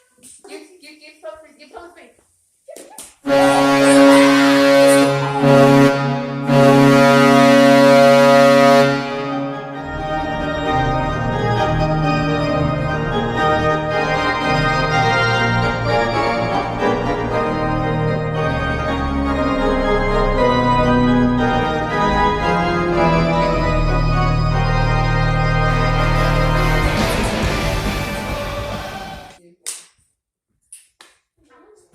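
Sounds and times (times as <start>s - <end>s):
sustained organ chords: 3.3s - 29.4s.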